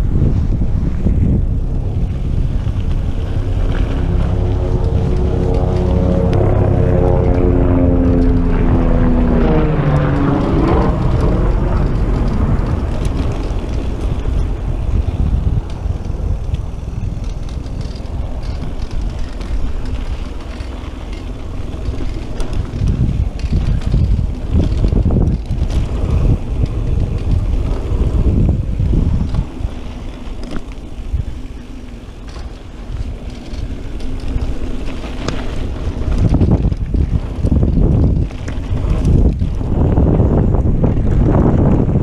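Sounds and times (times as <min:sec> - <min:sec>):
bike knocks and rattles: 0:00.0 - 0:42.0
tyres rumbling on dirt: 0:00.0 - 0:42.0
wind buffeting microphone: 0:00.0 - 0:42.0.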